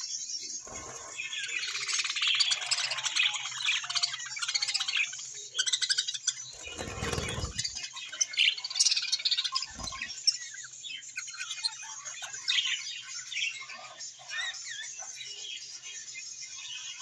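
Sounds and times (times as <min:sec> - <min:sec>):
budgerigars chattering and warbling: 0:00.7 - 0:15.9.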